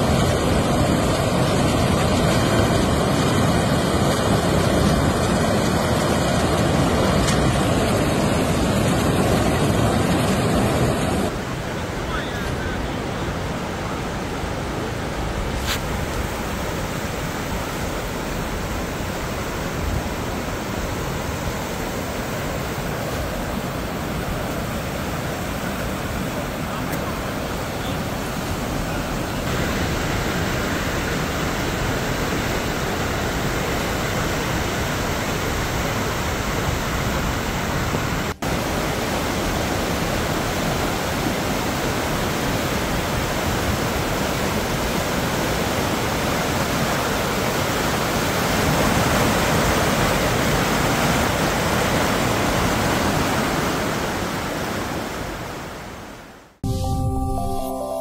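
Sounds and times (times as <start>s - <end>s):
floodwater rushing: 0.0s - 56.6s.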